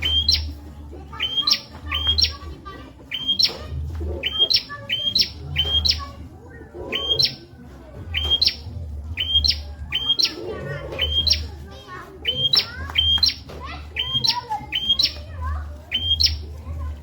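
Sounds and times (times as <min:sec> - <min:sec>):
bird chirping high: 0:00.0 - 0:07.5, 0:08.1 - 0:11.6, 0:12.2 - 0:16.6.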